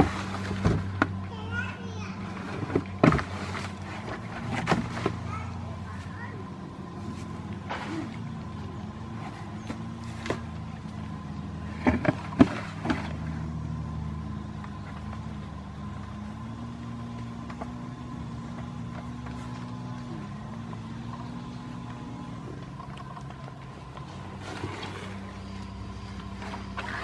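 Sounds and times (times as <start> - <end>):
low motor hum: 0.0 - 27.0.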